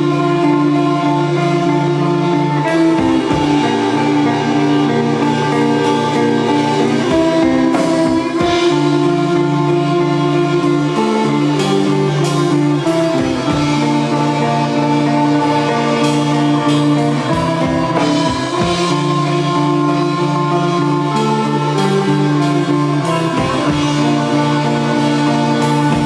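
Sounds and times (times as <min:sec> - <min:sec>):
guitar chords: 0:00.0 - 0:26.0
drums striking: 0:02.3 - 0:26.0.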